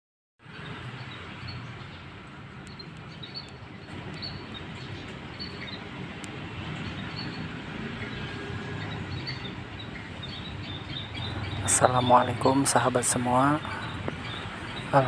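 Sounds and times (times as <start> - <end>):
small bird chirping: 0.4 - 15.0.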